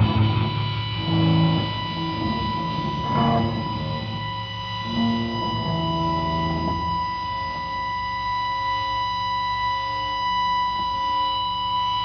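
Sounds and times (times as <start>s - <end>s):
electric guitar feedback whine: 0.0s - 12.0s.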